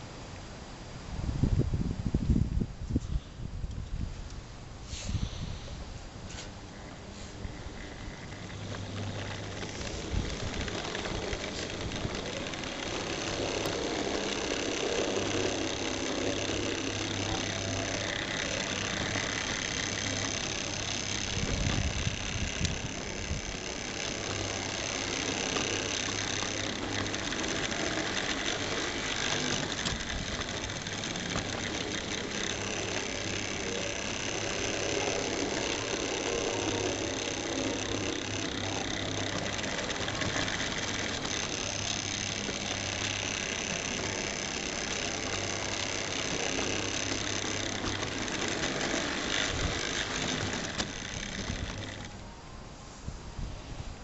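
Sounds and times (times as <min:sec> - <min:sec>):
model train motor whirring: 0:04.9 - 0:52.5
wheels rattling on rails: 0:06.3 - 0:52.4.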